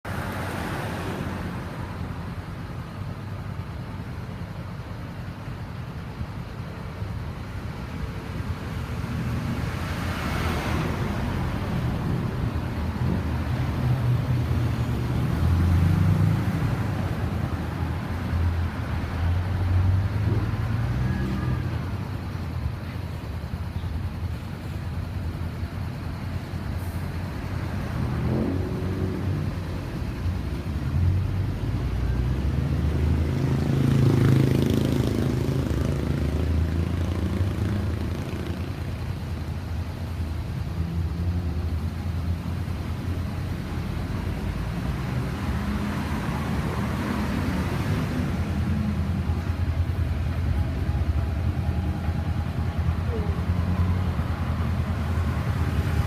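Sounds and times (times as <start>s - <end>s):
road traffic noise: 0.0s - 56.0s
vehicle engines rumbling: 0.0s - 56.0s.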